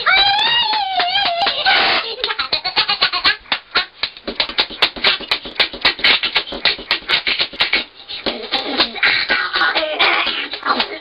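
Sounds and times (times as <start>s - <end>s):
rapid hand clapping: 0.0s - 11.0s.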